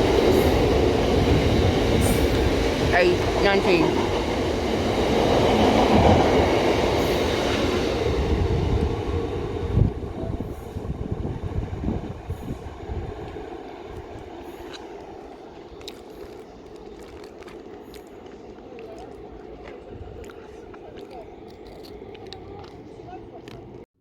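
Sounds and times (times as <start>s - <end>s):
train passing: 0.0s - 23.8s.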